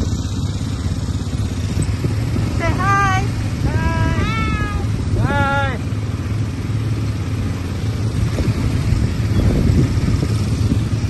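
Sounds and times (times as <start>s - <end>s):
atv engines running: 0.0s - 11.0s
rough ride noise: 0.0s - 11.0s.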